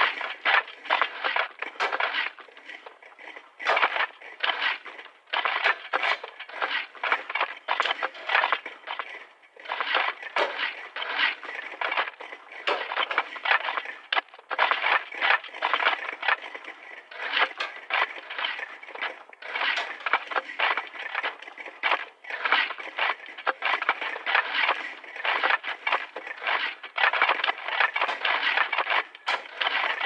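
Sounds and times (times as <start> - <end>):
hand tool scraping: 0.0 - 30.0.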